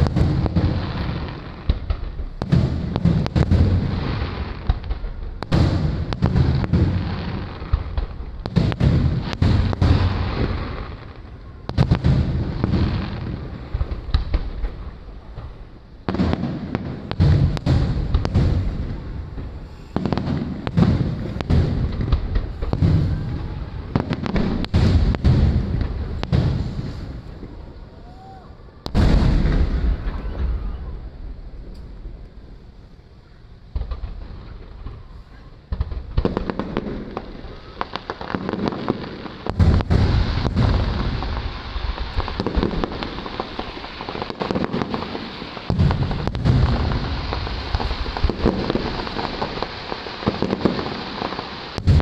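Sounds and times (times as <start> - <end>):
fireworks booming and cracking: 0.0 - 52.0.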